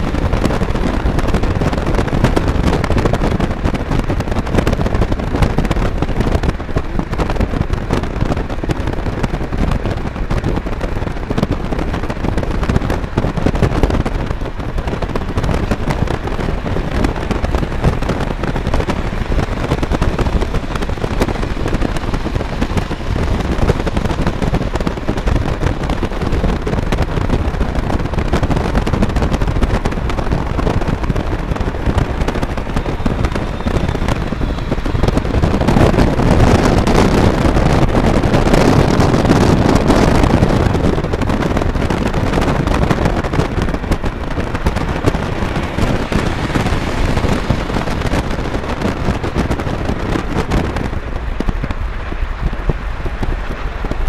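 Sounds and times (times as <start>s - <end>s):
car road rumble: 0.0s - 54.0s
freight train rolling: 0.0s - 54.0s
wind buffeting microphone: 0.0s - 54.0s.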